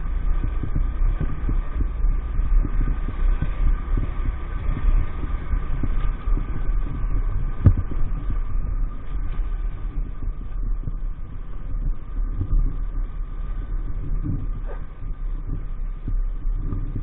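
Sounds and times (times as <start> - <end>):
faint whine: 0.0 - 17.0
heavy low rumble: 0.0 - 17.0
low thumps: 0.0 - 17.0.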